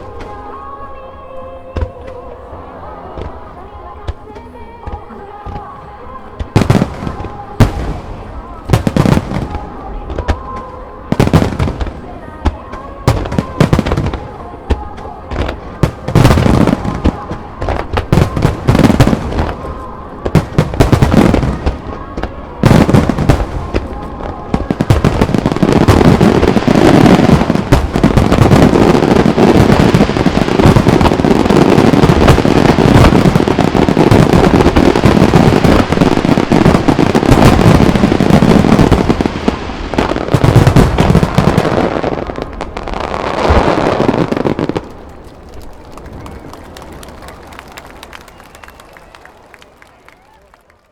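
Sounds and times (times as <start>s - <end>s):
fireworks bangs: 0.0s - 49.9s
fireworks crackle: 0.0s - 50.9s.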